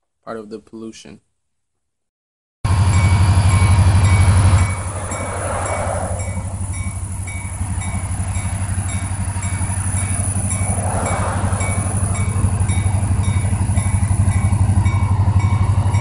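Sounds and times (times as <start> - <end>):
train going by: 2.7 - 16.0.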